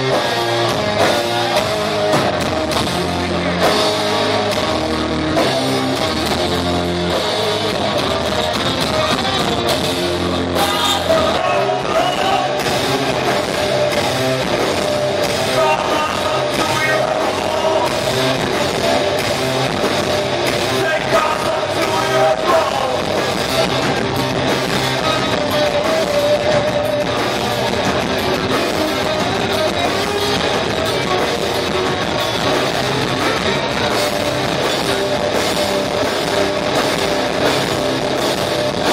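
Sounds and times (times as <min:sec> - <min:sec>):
distorted electric guitars: 0:00.0 - 0:38.9
drum kit: 0:00.0 - 0:38.9.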